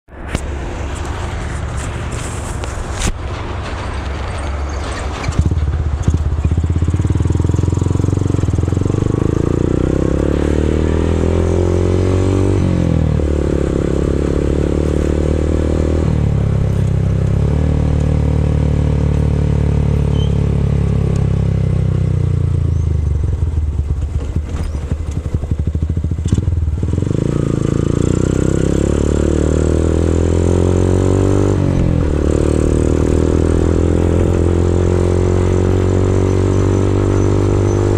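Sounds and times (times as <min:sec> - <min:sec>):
motorcycle engine revving: 0:00.2 - 0:37.9.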